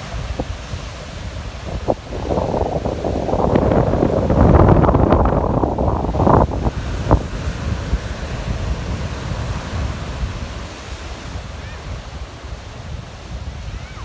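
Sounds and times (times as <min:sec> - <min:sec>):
surf breaking on shore: 0:00.0 - 0:14.0
wind buffeting microphone: 0:00.0 - 0:14.0.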